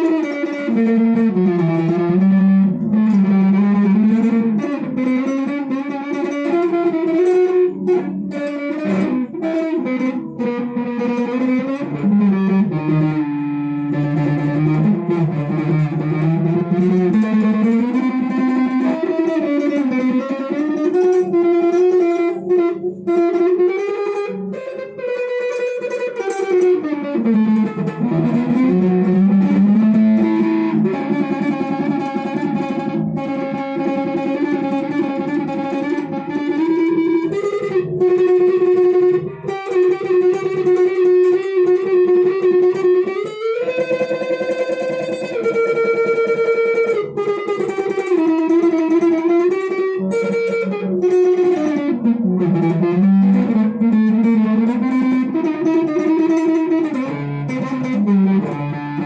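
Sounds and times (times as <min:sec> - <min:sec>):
electric guitar melody: 0:00.0 - 0:59.0.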